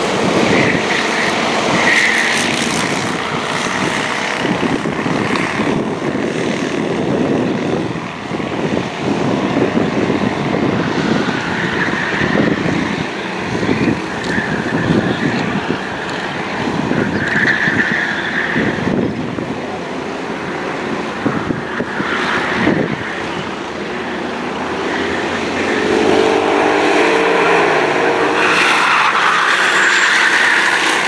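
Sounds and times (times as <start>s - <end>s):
high engine whine: 0.0s - 31.0s
kart engines buzzing: 0.0s - 31.0s.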